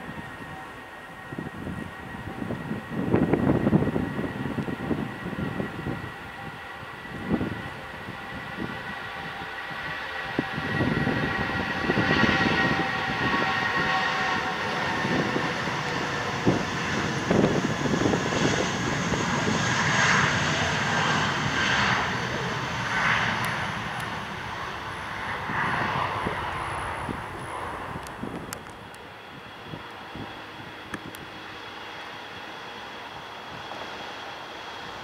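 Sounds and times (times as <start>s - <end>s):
high jet whine: 0.0s - 35.0s
jet engine roar: 0.0s - 35.0s.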